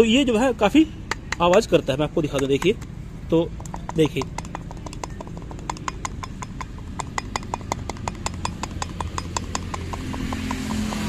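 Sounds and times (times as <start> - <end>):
clutch housing knocking clicks: 0.0 - 11.0.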